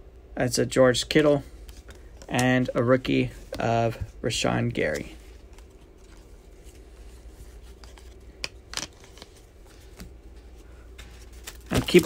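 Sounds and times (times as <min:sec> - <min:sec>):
trading cards rustling: 0:01.5 - 0:12.0.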